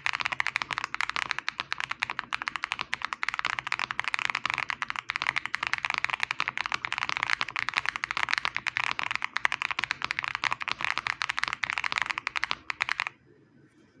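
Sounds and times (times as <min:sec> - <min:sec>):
fast mechanical keyboard typing: 0:00.0 - 0:13.2.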